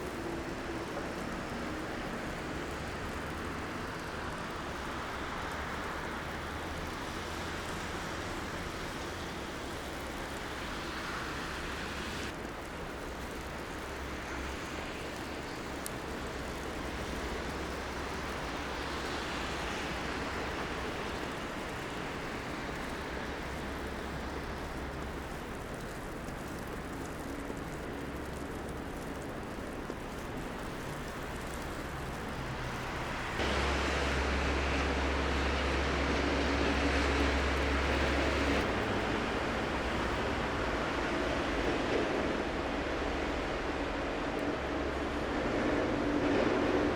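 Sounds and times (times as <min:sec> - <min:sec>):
street hiss: 0:00.0 - 0:46.9
traffic rumble: 0:00.0 - 0:46.9.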